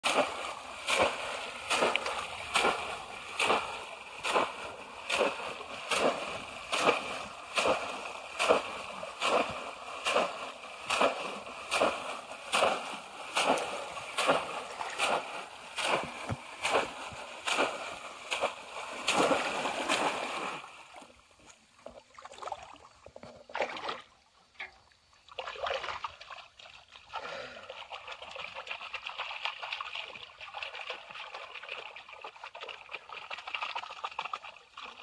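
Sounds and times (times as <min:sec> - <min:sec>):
fish traps splashing in water: 0:00.0 - 0:24.7, 0:25.3 - 0:35.0.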